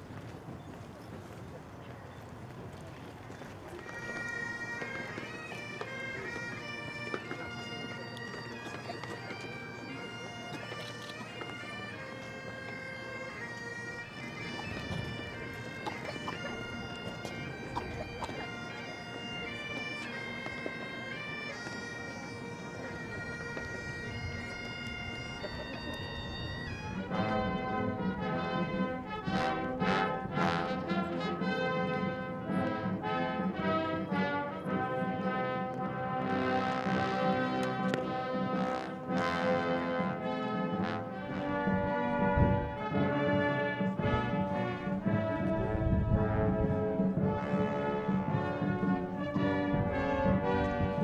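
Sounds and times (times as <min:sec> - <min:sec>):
bagpipes playing: 0:03.7 - 0:51.0.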